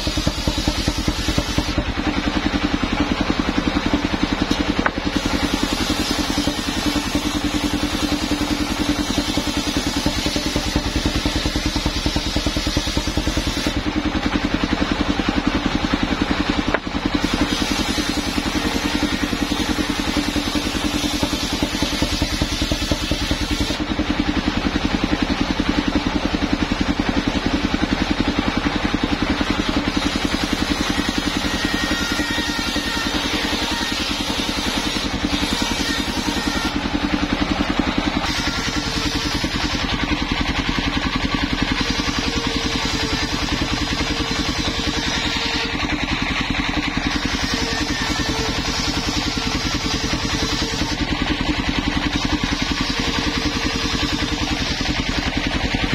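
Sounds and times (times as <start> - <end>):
sawmill engine pulsing: 0.0 - 55.9.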